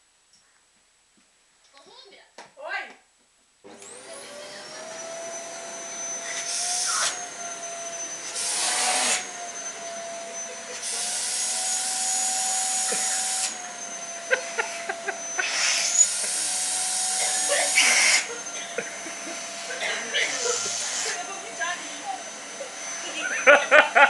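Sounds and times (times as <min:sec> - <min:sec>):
vacuum cleaner motor whining: 0:03.7 - 0:24.0.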